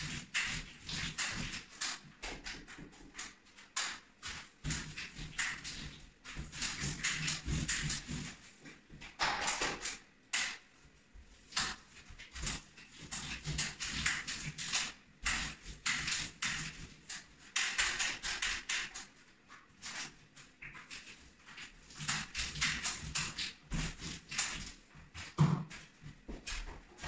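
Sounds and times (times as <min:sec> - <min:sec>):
roller strokes on ceiling: 0:00.0 - 0:27.0.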